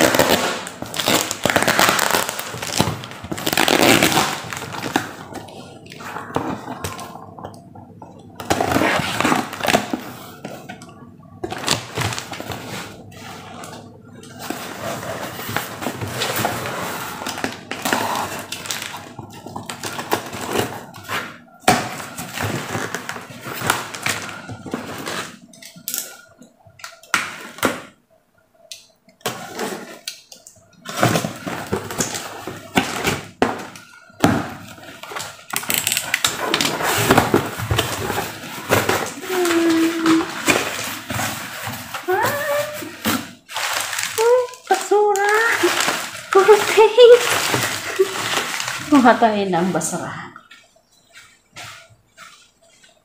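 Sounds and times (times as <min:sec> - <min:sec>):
paper packing rustling: 0:00.0 - 0:26.3, 0:29.2 - 0:49.8.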